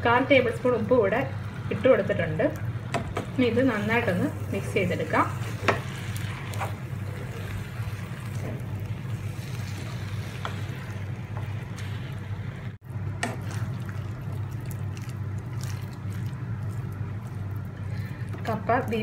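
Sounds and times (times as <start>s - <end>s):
steady low hum: 0.0s - 19.0s
wooden spatula stirring and mashing: 2.9s - 19.0s.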